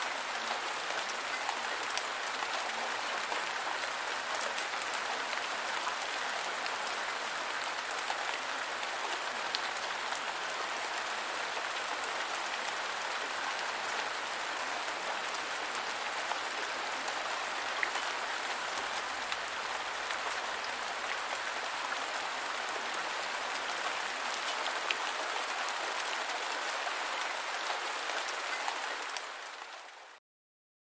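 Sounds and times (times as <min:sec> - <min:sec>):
steady rain falling: 0:00.0 - 0:30.2.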